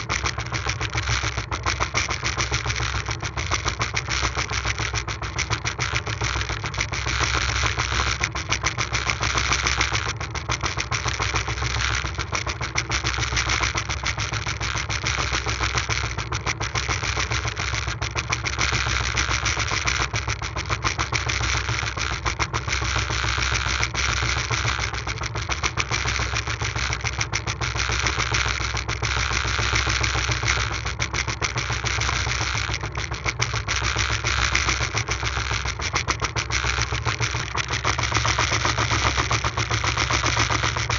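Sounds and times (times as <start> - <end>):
boat engine chattering: 0.0 - 40.9.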